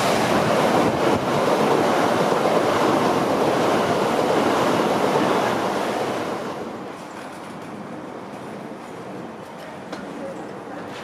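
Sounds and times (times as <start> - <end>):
electric train passing: 0.0 - 9.4.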